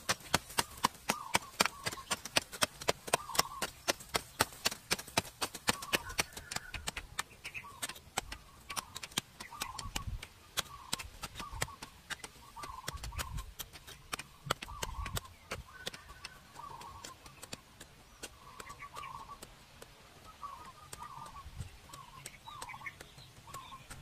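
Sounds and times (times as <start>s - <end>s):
rapid knocking taps: 0.0s - 24.0s.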